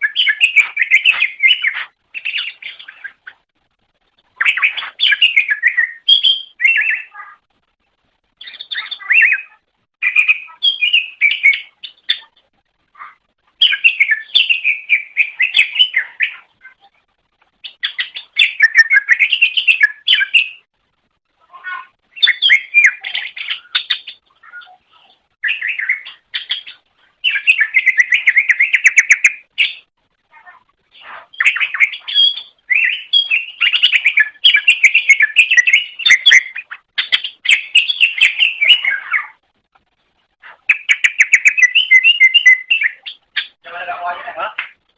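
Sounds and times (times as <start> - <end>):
bird singing warbling phrases: 0.0 - 3.5, 4.2 - 7.5, 8.3 - 20.7, 21.4 - 39.4, 40.4 - 44.9.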